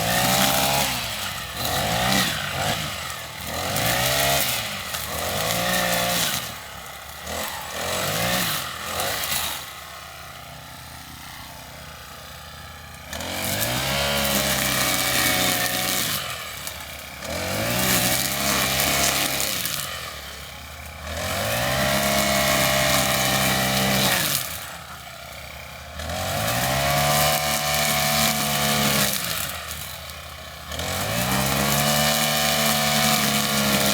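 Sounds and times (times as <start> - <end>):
lawnmower engine revving: 0.0 - 33.9.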